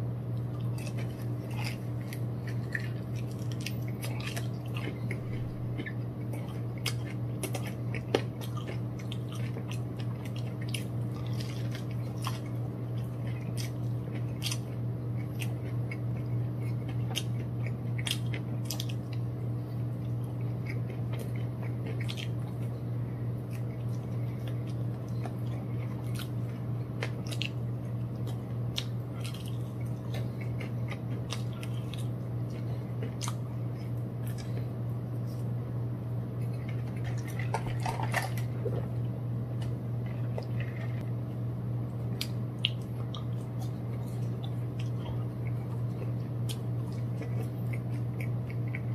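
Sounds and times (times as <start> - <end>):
crunchy chewing of fried chicken: 0.0 - 48.9
steady low hum: 0.0 - 48.9.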